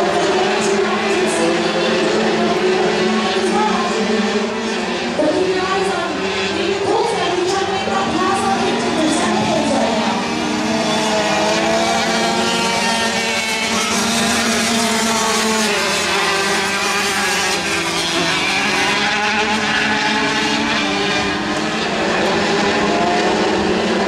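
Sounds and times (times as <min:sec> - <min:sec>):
dirt bike engines racing: 0:00.0 - 0:24.0.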